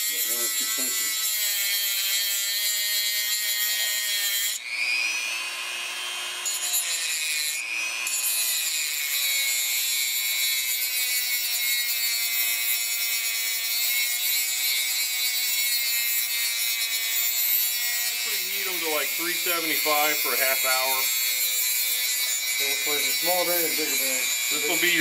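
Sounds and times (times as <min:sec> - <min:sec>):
rotary tool grinding steel: 0:00.0 - 0:25.0.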